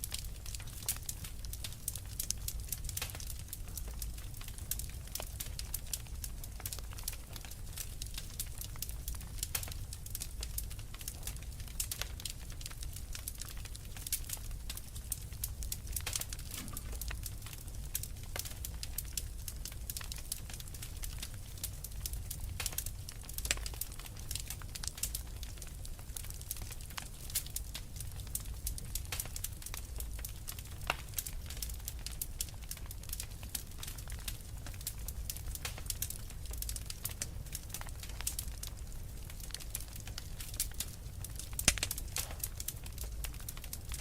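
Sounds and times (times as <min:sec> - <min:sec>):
low rumble of flames: 0:00.0 - 0:44.0
wood fire crackling and popping: 0:00.0 - 0:44.0.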